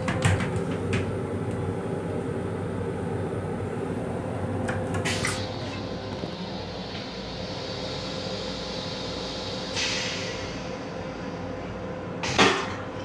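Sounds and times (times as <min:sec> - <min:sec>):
railcar rumble and hum: 0:00.0 - 0:13.0.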